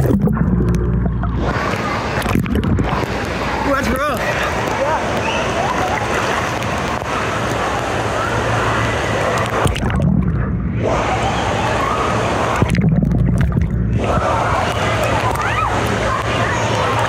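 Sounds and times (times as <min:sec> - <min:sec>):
muffled underwater rumble: 0:00.0 - 0:03.6, 0:04.5 - 0:17.0
water sloshing and splashing: 0:00.0 - 0:17.0
crowd voices: 0:00.3 - 0:17.0.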